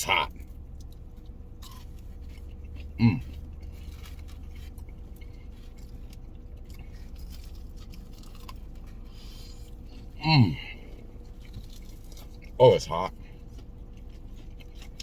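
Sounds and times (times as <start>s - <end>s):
low steady hum: 0.0s - 15.0s
person chewing crispy food: 0.0s - 15.0s.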